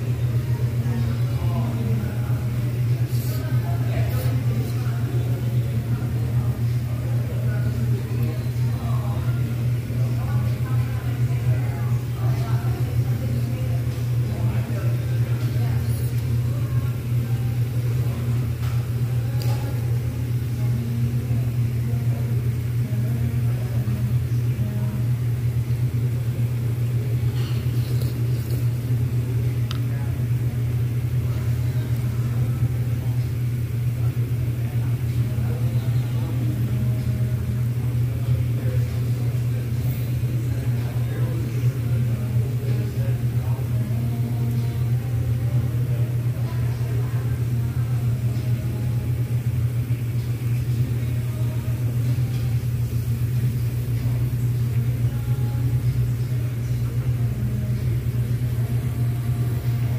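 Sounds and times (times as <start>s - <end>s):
faint voices: 0.0s - 59.9s
loud low grill rumble: 0.0s - 59.9s.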